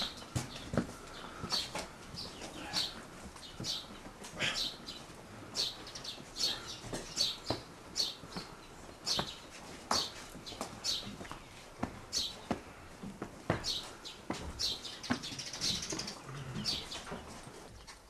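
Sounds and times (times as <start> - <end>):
footsteps climbing steps: 0.0 - 18.0.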